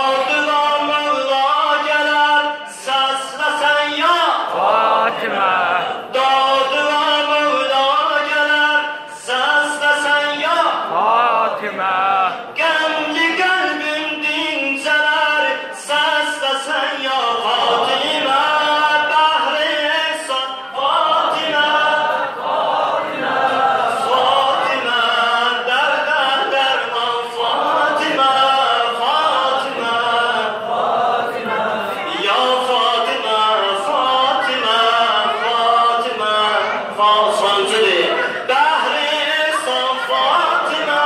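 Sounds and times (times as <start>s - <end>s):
man singing a hymn unaccompanied: 0.0s - 22.3s, 23.9s - 30.8s, 31.4s - 41.0s.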